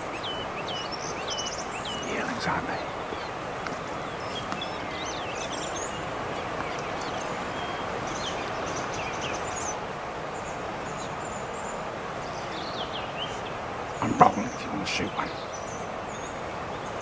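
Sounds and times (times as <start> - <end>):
river rushing: 0.0 - 17.0
small birds chirping: 0.0 - 17.0.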